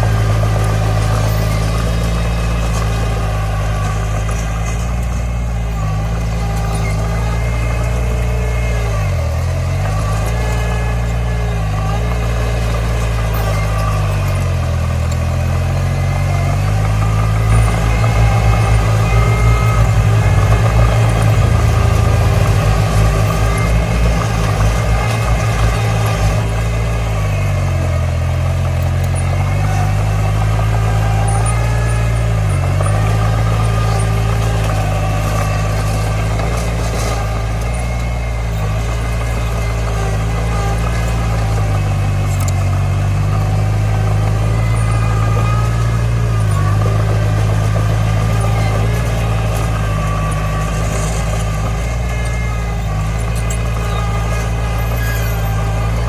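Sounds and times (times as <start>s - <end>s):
bulldozer diesel engine working: 0.0s - 56.0s.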